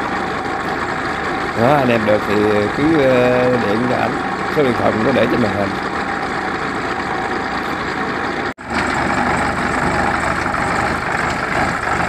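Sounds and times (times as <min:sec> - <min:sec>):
walking tractor engine idling: 0:00.0 - 0:12.0.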